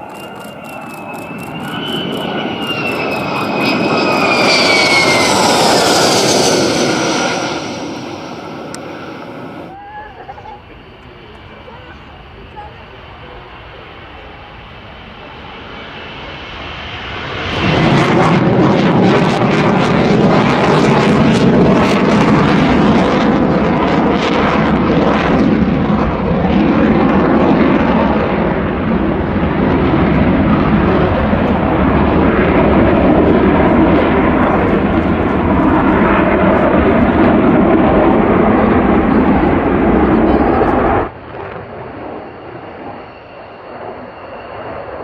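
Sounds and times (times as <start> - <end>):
jet engine roaring: 0.0 - 9.8, 10.7 - 45.0.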